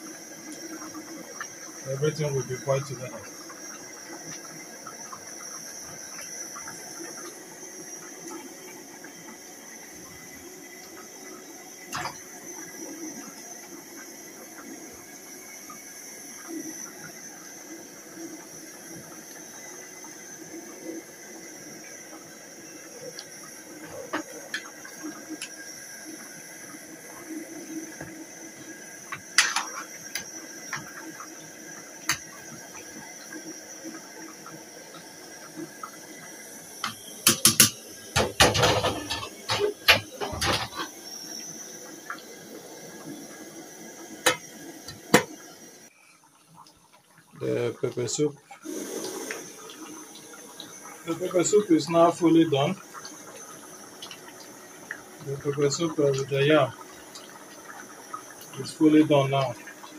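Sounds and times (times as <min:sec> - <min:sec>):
pot boiling on gas burner: 0:00.0 - 0:59.9.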